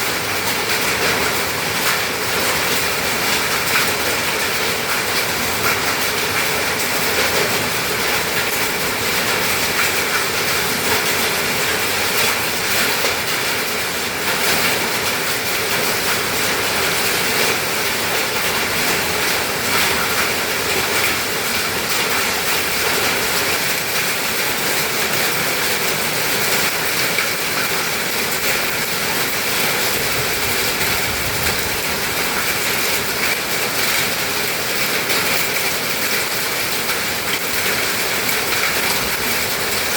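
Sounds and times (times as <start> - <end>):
heavy rain and hail: 0.0 - 39.9.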